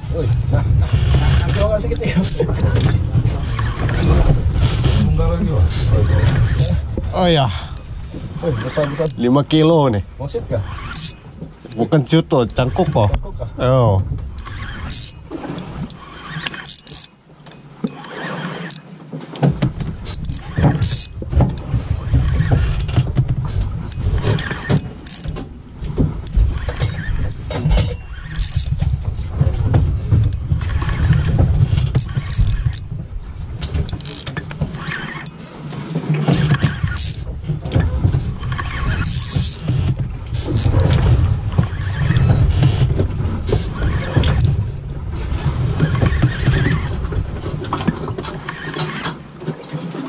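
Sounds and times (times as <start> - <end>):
boat engine low rumble: 0.0 - 50.0.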